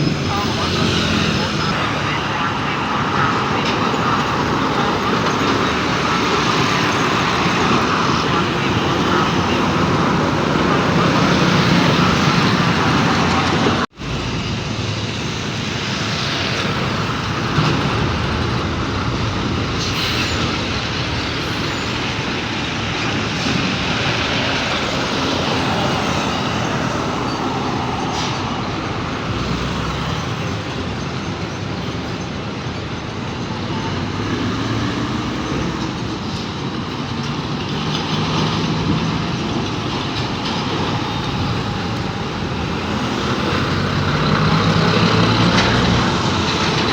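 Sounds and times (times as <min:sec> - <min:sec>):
diesel trucks passing: 0:00.0 - 0:46.9.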